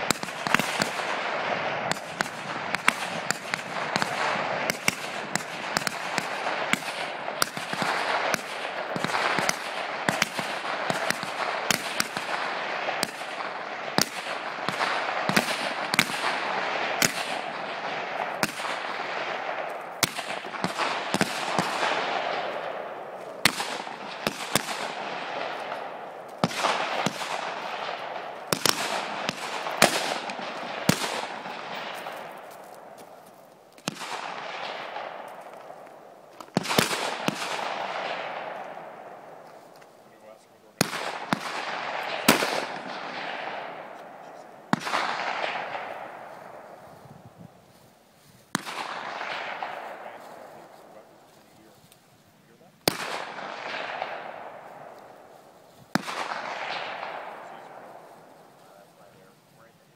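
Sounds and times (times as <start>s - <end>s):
rifle shots cracking: 0.0s - 46.9s, 48.5s - 52.0s, 52.8s - 58.8s.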